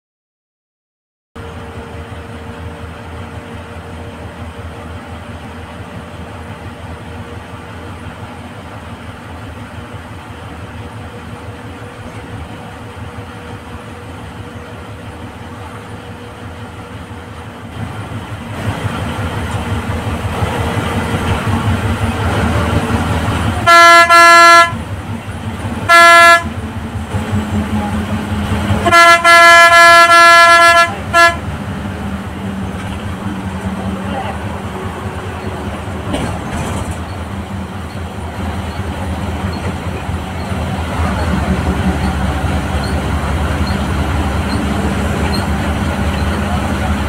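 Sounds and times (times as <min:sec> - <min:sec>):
bus engine and road drone: 0:01.4 - 0:47.0.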